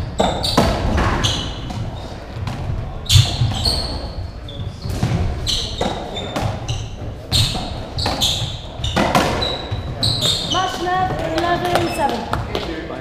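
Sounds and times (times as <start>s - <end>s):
shoes squeaking on wooden floor: 0.0s - 12.8s
ball smacking rackets and walls: 0.1s - 4.0s, 4.6s - 12.8s.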